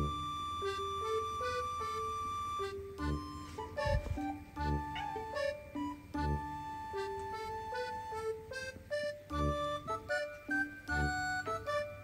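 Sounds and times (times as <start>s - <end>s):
light tune with pulsing bass: 0.0s - 12.0s.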